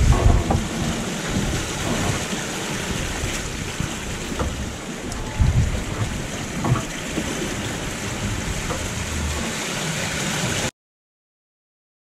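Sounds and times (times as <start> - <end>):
water rushing along boat hull: 0.0 - 10.7.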